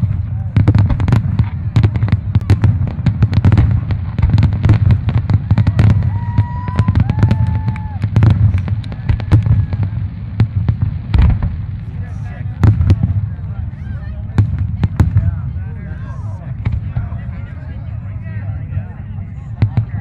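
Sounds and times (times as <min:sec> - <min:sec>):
fireworks cracks and booms: 0:00.0 - 0:17.4
continuous low rumble: 0:00.0 - 0:20.0.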